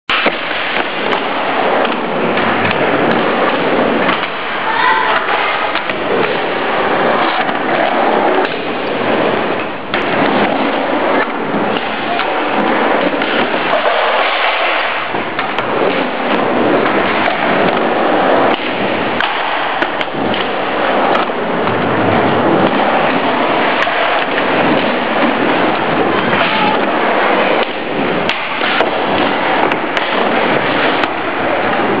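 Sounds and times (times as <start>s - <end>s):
skateboard clacks: 0.1s - 32.0s
skateboard wheels rumbling: 0.1s - 32.0s.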